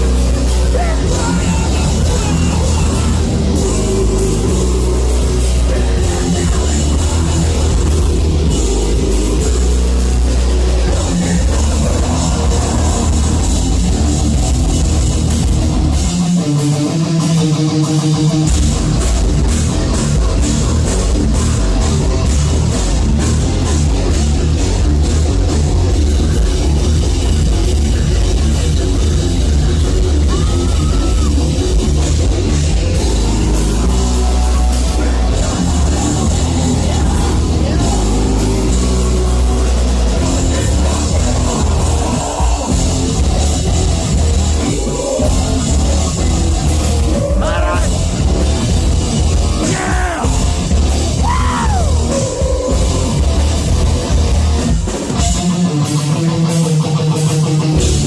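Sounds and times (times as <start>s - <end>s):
guitar riff: 0.0s - 58.0s
heavy metal band playing: 0.0s - 58.0s.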